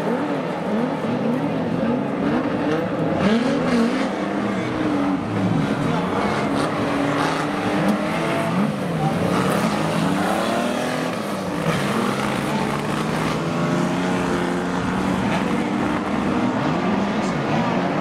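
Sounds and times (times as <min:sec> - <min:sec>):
stockcar engines revving: 0:00.0 - 0:18.0.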